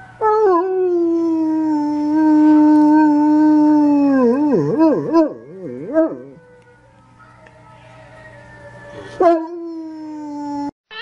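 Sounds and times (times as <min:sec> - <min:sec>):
large dog howling: 0:00.0 - 0:10.7.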